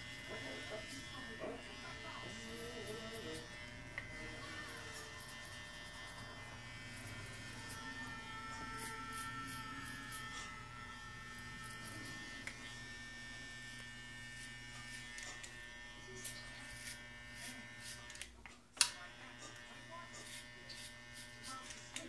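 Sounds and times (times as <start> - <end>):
hair clipper buzzing: 0.0 - 22.0.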